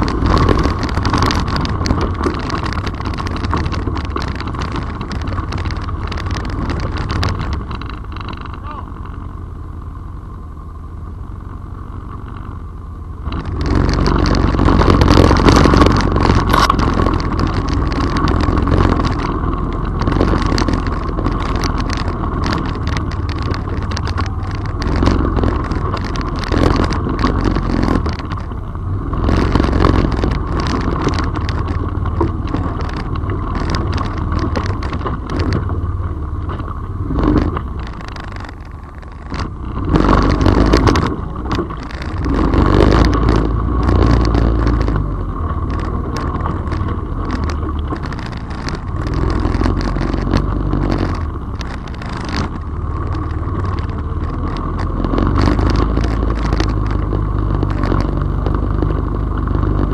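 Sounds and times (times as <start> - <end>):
off-road vehicle engine: 0.0 - 59.9
rattles and knocks on rough trail: 0.0 - 59.9.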